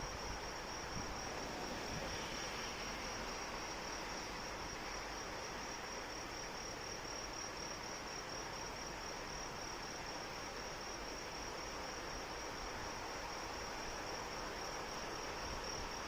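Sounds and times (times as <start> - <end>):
crickets trilling: 0.0 - 16.0
steady rain: 0.0 - 16.0.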